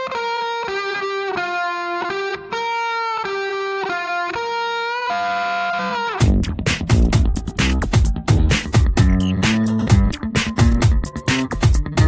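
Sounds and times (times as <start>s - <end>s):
electric guitar melody: 0.0s - 12.0s.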